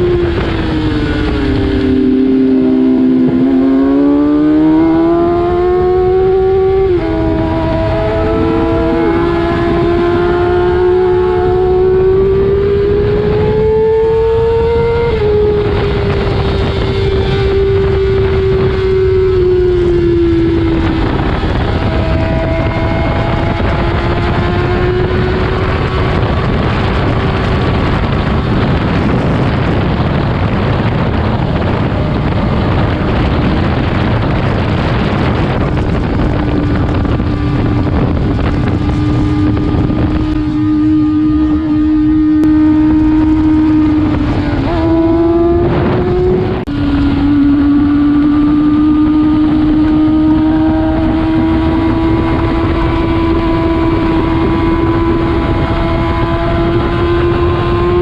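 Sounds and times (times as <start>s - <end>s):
motorcycle engine at high revs: 0.0s - 58.0s
wind rush on microphone: 0.0s - 58.0s.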